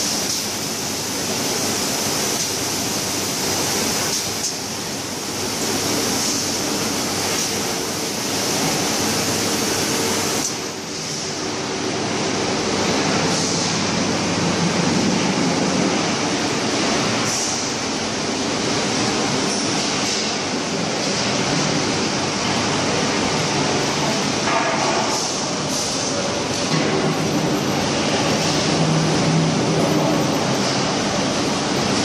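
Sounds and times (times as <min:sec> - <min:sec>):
production line machinery: 0:00.0 - 0:32.0.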